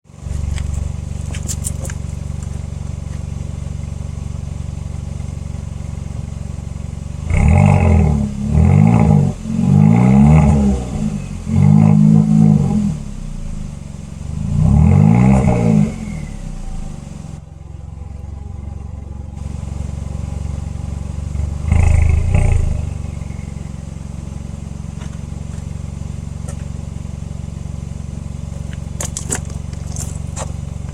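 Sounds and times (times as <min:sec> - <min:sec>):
car engine idling and revving: 0:00.0 - 0:30.9.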